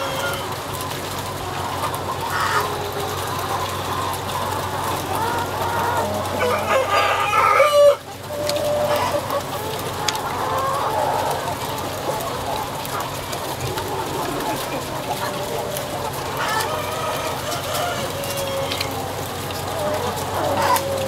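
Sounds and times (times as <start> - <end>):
chickens clucking and calling: 0.0 - 21.0.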